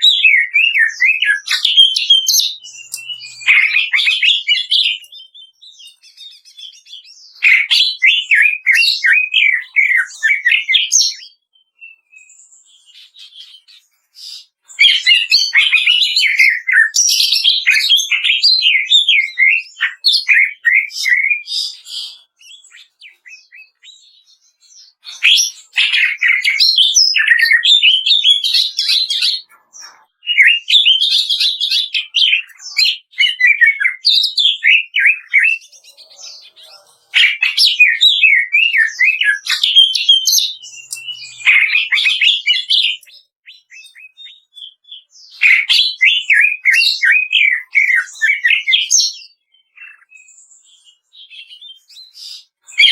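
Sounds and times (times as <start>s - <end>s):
bird singing crackling song: 0.0s - 52.9s.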